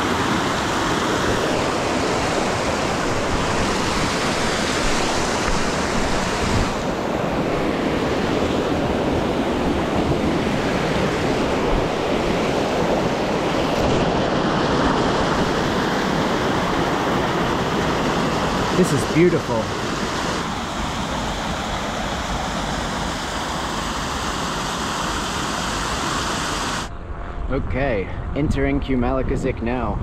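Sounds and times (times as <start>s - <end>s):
stream rushing over boulders: 0.0s - 9.2s, 9.9s - 26.9s.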